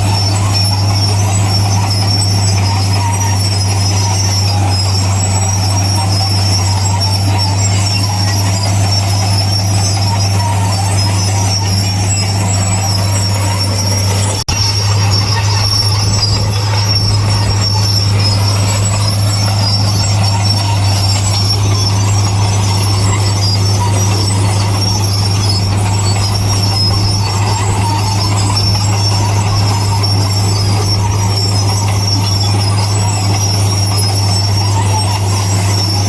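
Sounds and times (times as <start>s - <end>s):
diesel machinery drone: 0.0s - 36.0s
high-pitched squeal: 0.0s - 36.0s.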